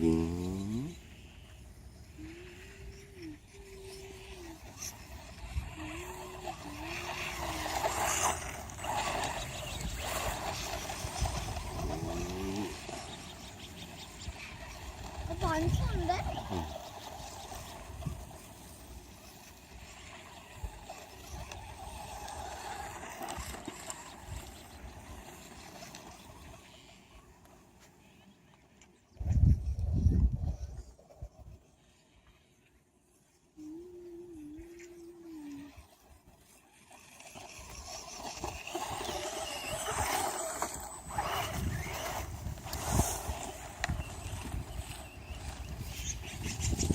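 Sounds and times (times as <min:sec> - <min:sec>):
electric motor whining: 0:00.0 - 0:27.6, 0:33.6 - 0:46.9
toy truck tyres crunching snow: 0:02.4 - 0:29.1, 0:34.6 - 0:46.9.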